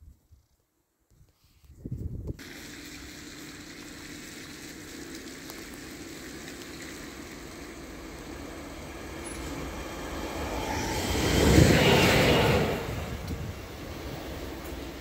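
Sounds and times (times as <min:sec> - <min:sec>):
train rumble: 0:02.4 - 0:15.0.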